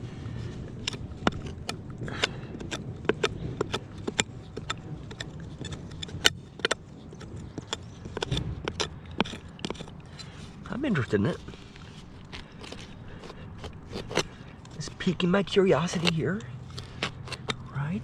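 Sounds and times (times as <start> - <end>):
digging tool scraping stony soil: 0.0 - 18.0.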